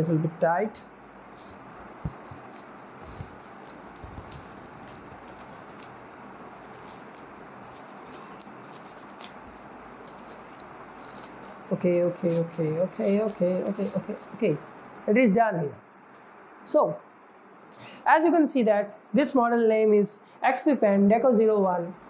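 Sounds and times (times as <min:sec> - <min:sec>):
background hiss: 0:00.0 - 0:20.7.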